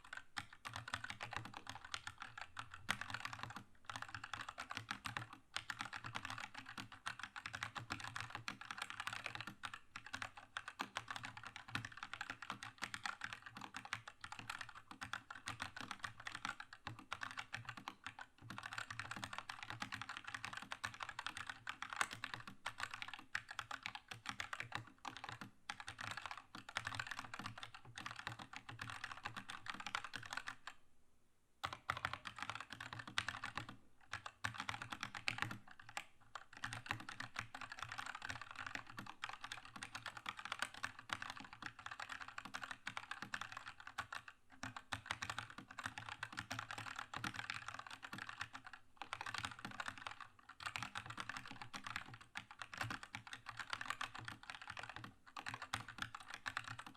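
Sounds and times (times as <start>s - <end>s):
mechanical keyboard typing: 0.0s - 30.8s, 31.6s - 56.9s.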